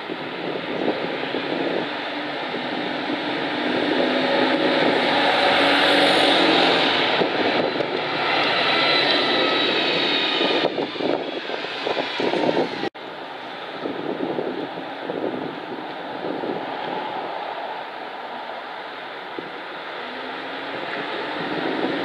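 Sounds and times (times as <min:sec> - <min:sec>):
diesel buses driving past: 0:00.1 - 0:22.0.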